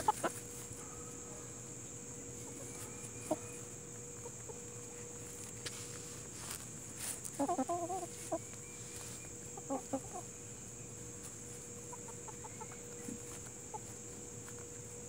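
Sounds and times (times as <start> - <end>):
chickens clucking: 0.0 - 15.0
steady high hiss: 0.0 - 15.0.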